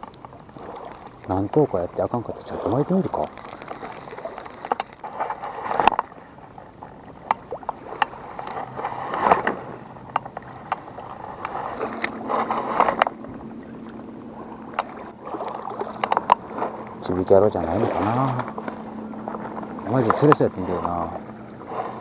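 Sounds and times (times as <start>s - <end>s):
water splashing at shoreline: 0.0s - 22.0s.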